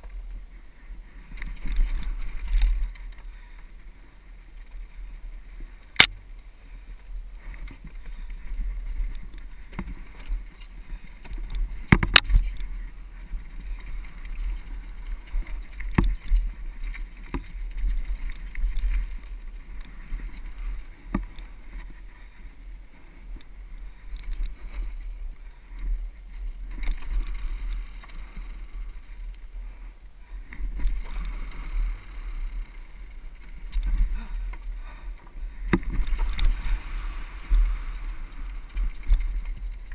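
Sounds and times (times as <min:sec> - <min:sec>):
bike riding rumble: 0:00.0 - 0:39.9.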